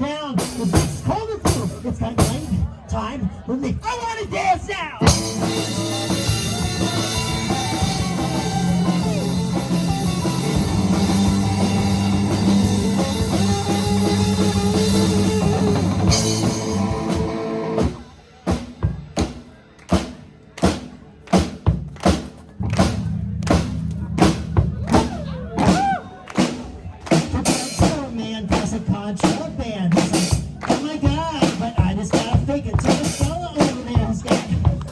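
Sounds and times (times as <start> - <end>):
live rock band playing: 0.0 - 2.7, 5.0 - 34.9
steady drum beat: 0.0 - 2.8, 4.3 - 34.9.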